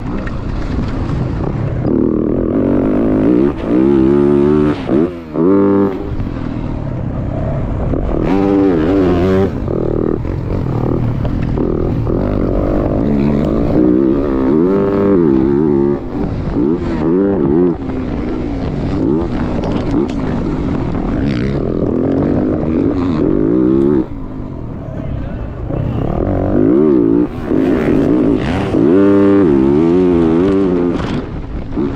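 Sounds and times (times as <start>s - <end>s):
dirt bike engines revving: 0.0s - 31.9s.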